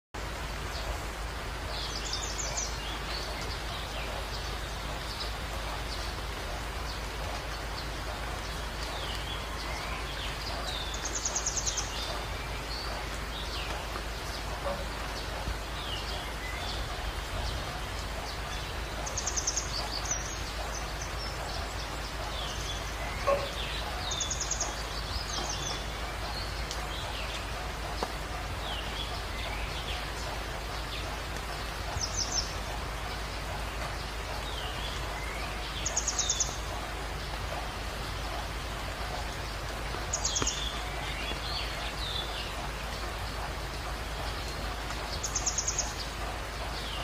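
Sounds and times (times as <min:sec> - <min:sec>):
birds chirping: 0:00.2 - 0:47.0
rain hissing: 0:00.2 - 0:47.0
stream flowing over rocks: 0:00.2 - 0:47.0.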